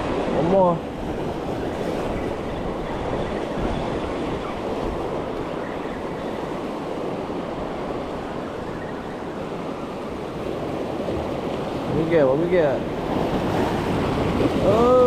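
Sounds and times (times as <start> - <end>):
ocean surf washing on shore: 0.0 - 15.0.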